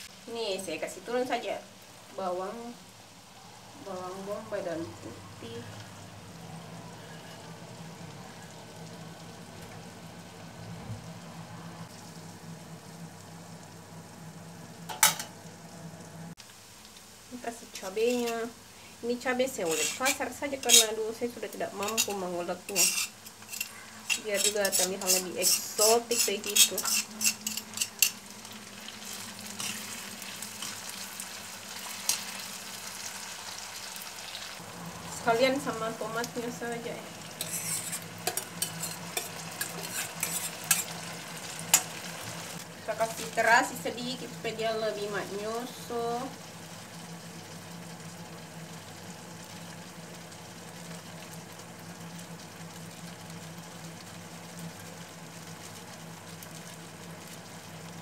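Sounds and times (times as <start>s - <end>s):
chili and onions sizzling: 0.0s - 58.0s.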